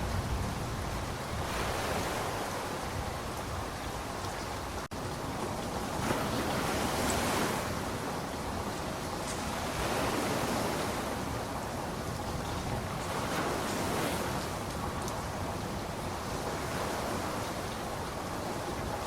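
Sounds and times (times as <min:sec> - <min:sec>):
steady rainfall: 0:00.0 - 0:19.0.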